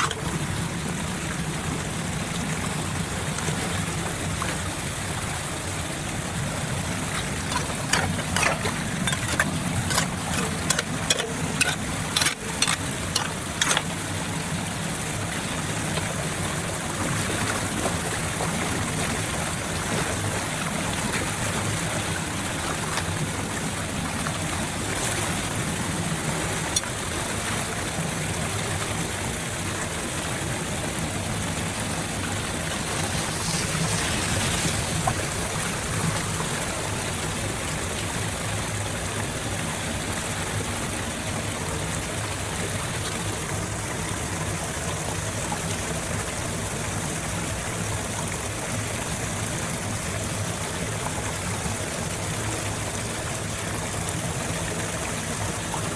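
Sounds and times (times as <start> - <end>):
water rushing through drain: 0.0 - 55.9.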